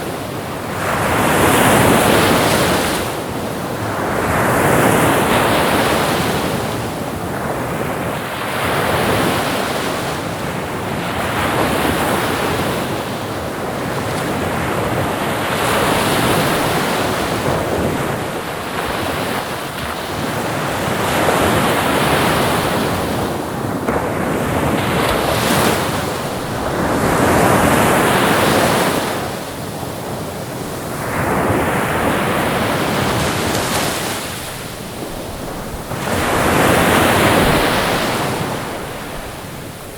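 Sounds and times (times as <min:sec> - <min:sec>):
ocean waves breaking on shore: 0:00.0 - 0:39.9
wind on microphone: 0:00.0 - 0:39.9.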